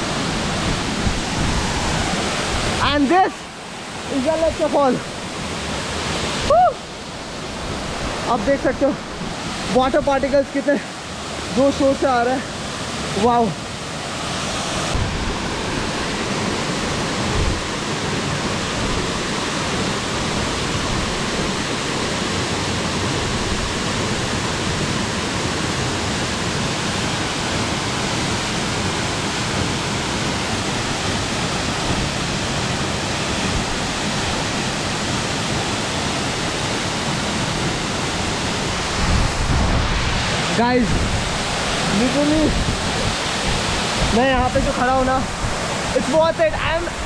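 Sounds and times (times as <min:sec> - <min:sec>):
rush of falling water: 0:00.0 - 0:47.0.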